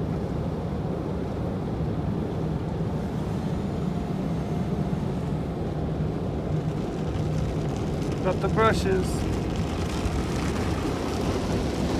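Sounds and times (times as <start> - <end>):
car wash machinery rumble: 0.1 - 11.9.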